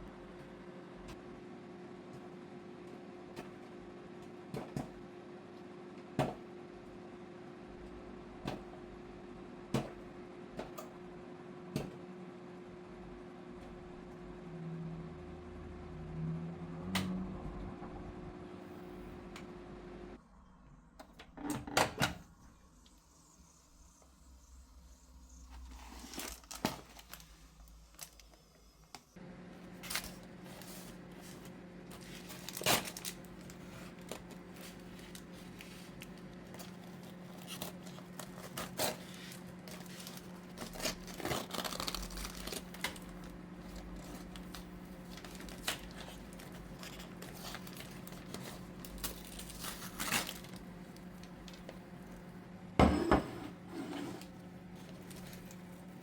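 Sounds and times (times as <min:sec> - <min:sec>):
appliance humming: 0:00.0 - 0:56.0.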